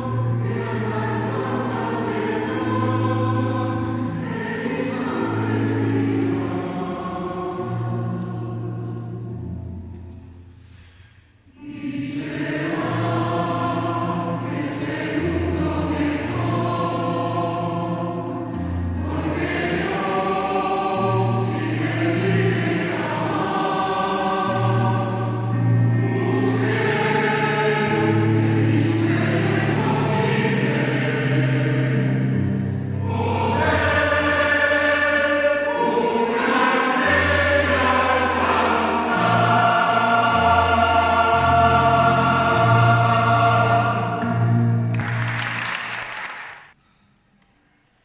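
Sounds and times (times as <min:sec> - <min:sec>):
choir singing: 0:00.0 - 0:09.8, 0:11.5 - 0:46.6.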